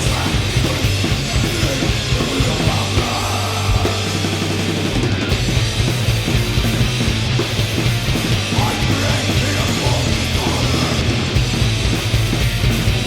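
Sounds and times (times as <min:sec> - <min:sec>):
bass guitar: 0:00.0 - 0:13.0
distorted guitars: 0:00.0 - 0:13.0
drum kit: 0:00.0 - 0:13.0.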